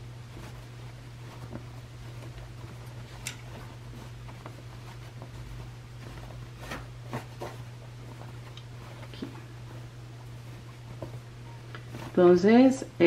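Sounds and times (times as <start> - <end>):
fabric rustling: 0.0 - 13.0
low hum: 0.0 - 13.0.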